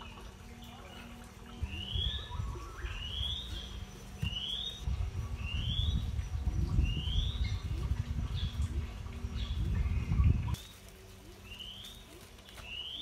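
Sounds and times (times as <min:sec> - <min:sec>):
low rumbling noise: 0:00.0 - 0:12.2.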